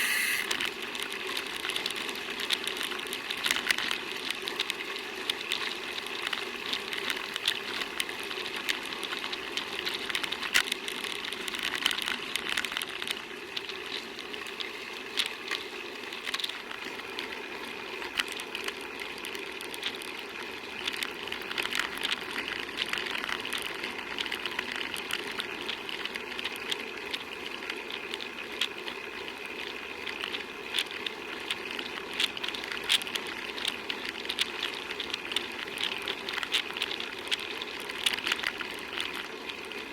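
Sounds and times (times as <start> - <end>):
bicycle road noise: 0.0 - 39.9
small clicks and rattles: 0.0 - 39.9.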